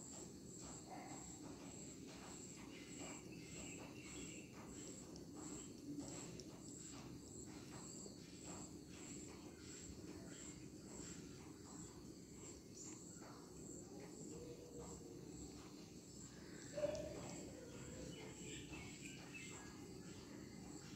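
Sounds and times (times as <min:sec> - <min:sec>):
high-pitched insect chirping: 0:00.0 - 0:20.9
soft scattered clicks: 0:00.2 - 0:20.9.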